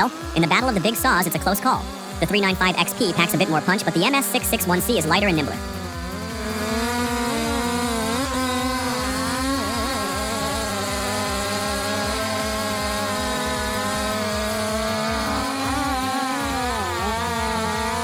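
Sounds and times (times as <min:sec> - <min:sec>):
chainsaw running at high revs: 0:00.0 - 0:18.0.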